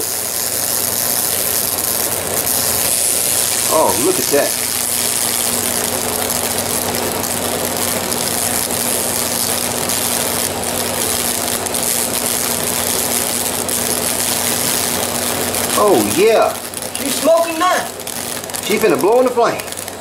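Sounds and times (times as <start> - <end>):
electric arc buzzing and crackling: 0.0 - 20.0
low mains hum: 0.0 - 20.0.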